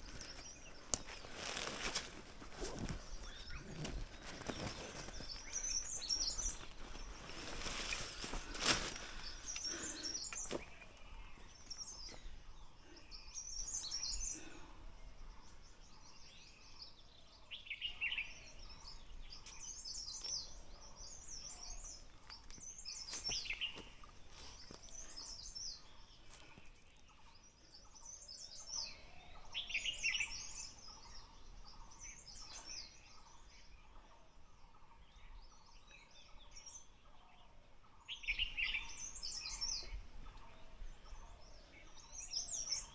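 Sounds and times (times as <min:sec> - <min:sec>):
birds twittering: 0:00.0 - 0:42.9.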